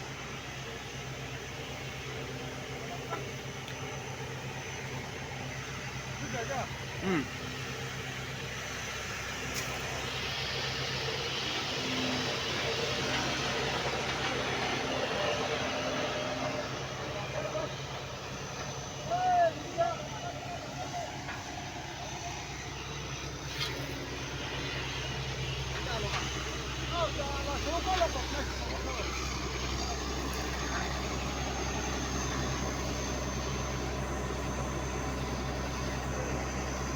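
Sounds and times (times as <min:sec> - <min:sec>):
engine humming: 0:00.0 - 0:36.9.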